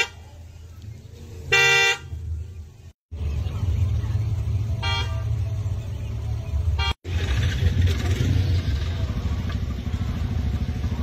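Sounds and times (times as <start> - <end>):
engines idling in traffic: 0.0 - 11.0.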